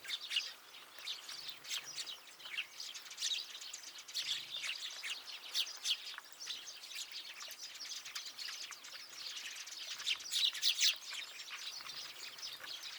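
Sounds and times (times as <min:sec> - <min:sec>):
small songbirds chirping: 0:00.0 - 0:12.9.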